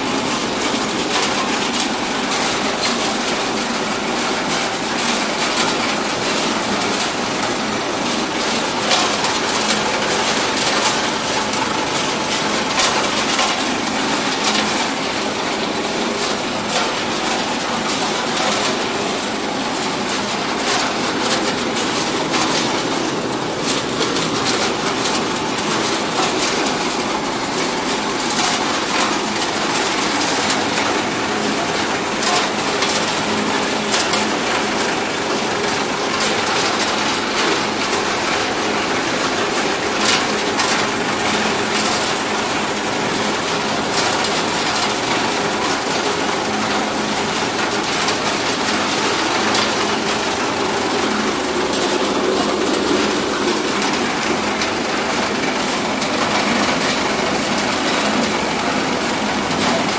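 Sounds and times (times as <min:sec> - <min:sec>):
machine noise: 0:00.0 - 0:59.9.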